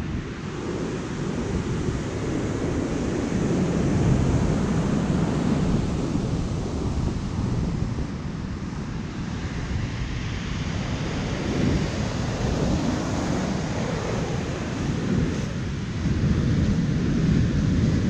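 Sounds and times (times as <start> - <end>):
ocean surf washing on shore: 0.0 - 18.0
wind buffeting microphone: 0.0 - 18.0.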